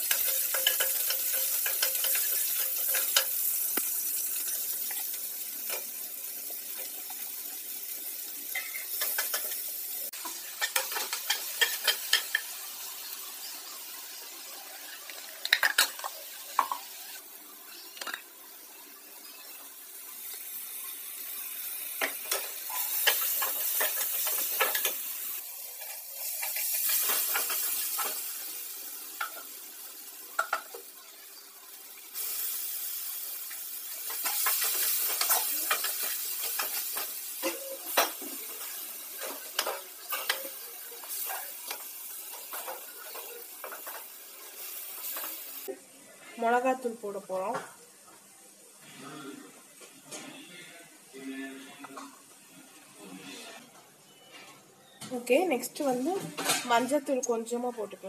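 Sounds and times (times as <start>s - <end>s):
onions sizzling in a pan: 0.0s - 54.2s, 55.1s - 58.0s.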